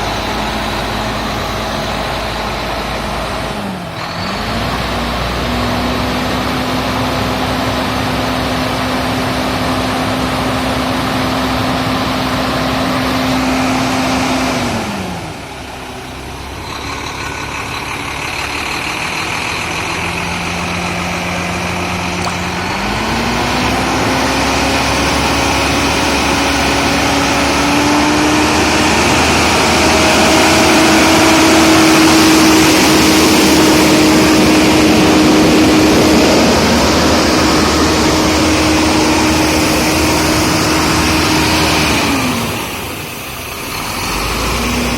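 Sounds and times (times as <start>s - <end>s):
old truck engine running: 0.0s - 44.9s.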